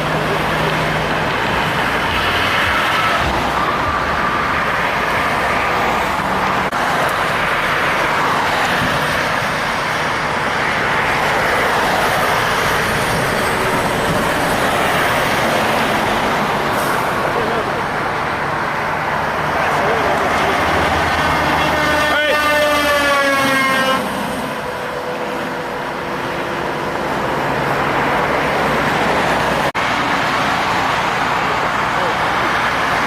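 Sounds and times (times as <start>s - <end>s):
heavy trucks passing: 0.0s - 33.0s.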